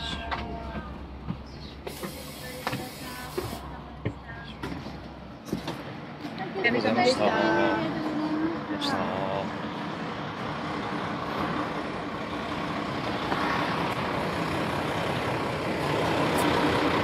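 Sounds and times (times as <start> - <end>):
vehicle running noise: 0.0 - 17.0.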